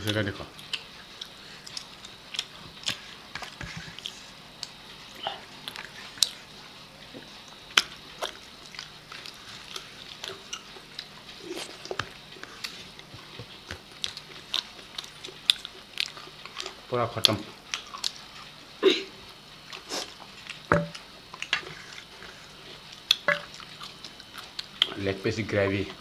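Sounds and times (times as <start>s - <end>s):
people chewing and biting: 0.0s - 18.6s, 19.2s - 25.0s.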